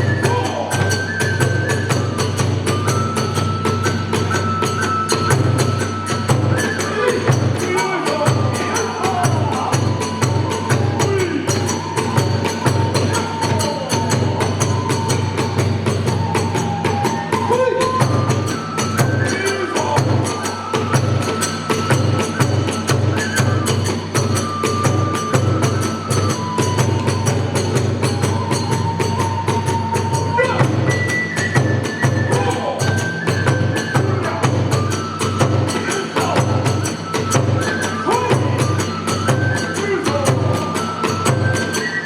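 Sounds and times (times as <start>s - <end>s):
bamboo flute melody: 0.0s - 42.0s
drum beating fast rhythm: 0.0s - 42.0s.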